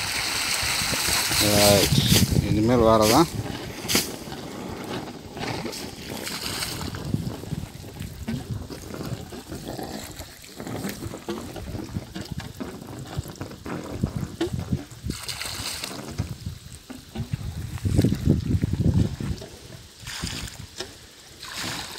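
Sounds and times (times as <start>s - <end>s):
water gushing and splashing: 0.0s - 21.9s.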